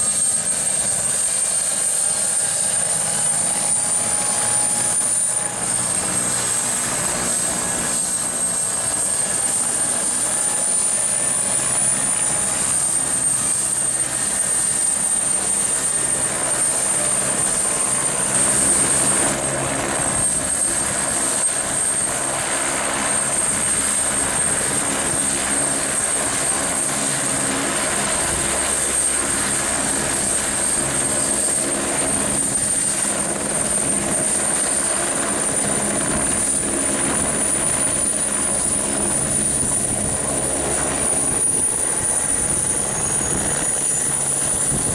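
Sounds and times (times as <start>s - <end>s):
helicopter rotor throb: 0.0s - 44.9s
helicopter turbine whine: 0.0s - 44.9s.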